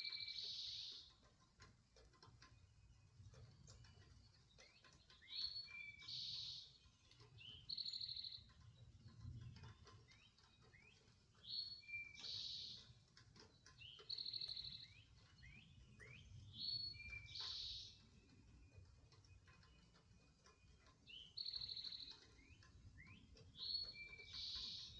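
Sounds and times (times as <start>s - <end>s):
songbird singing whistle and trill: 0.0s - 1.1s, 3.7s - 13.1s, 13.7s - 24.9s.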